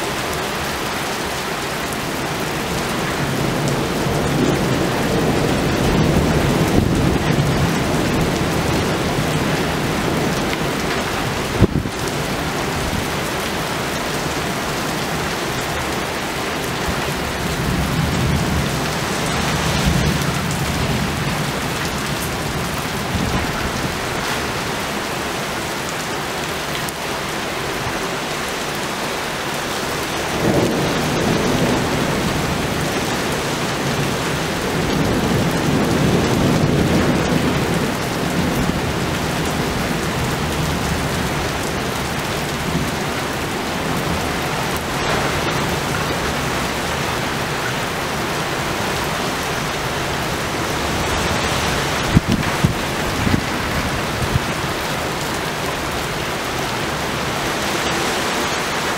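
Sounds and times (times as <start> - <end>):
heavy rain pouring: 0.0 - 58.9
thunder rumbling: 2.4 - 25.5, 30.0 - 57.4.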